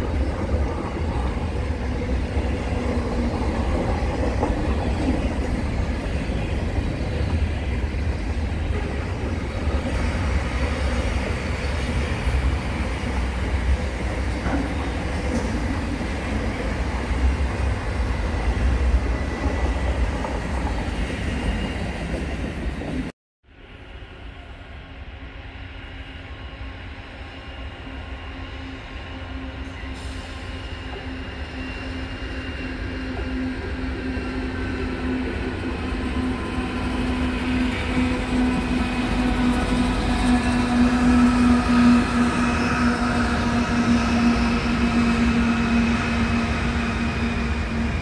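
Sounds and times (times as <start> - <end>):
freight train rumbling on rails: 0.0 - 48.0.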